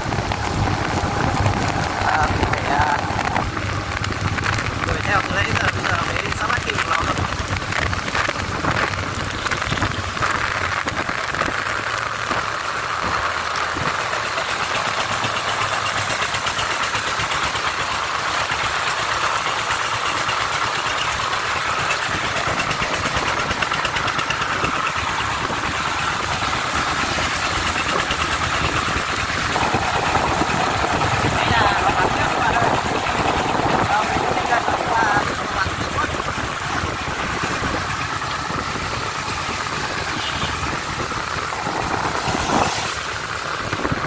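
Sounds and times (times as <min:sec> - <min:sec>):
single-cylinder diesel engine: 0:00.0 - 0:44.0
vehicle engines on wet road: 0:00.0 - 0:44.0.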